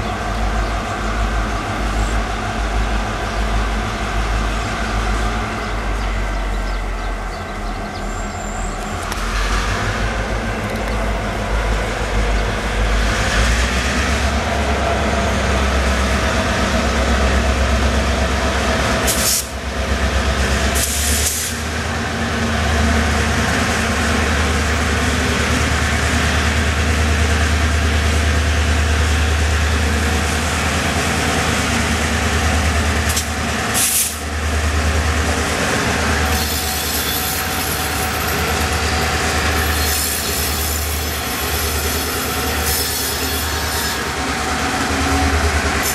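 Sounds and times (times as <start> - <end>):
diesel locomotive engines rumbling: 0.0 - 45.9.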